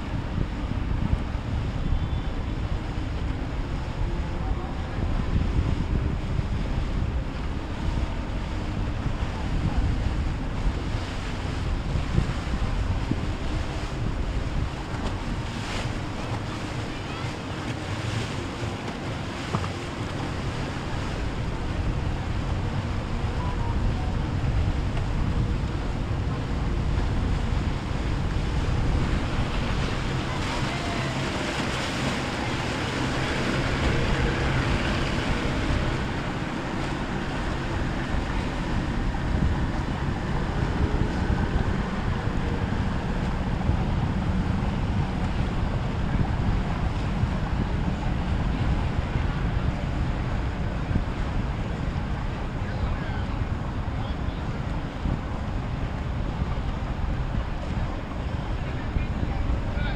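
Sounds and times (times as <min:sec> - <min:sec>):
boat engines humming: 0:00.0 - 0:59.9
water wash from boat wakes: 0:00.0 - 0:59.9
wind on microphone: 0:00.0 - 0:59.9.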